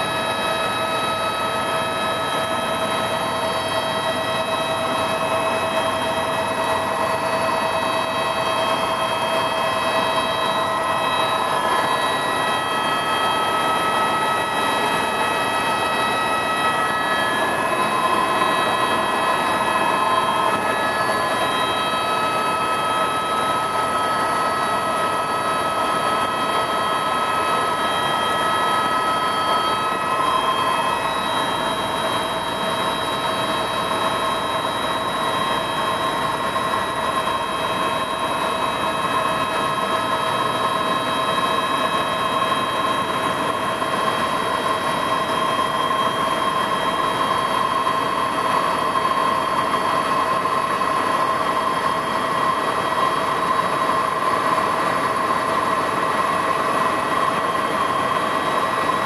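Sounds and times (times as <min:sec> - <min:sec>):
helicopter rotor and engine noise: 0:00.0 - 0:59.0
high-pitched turbine whine: 0:00.0 - 0:59.0.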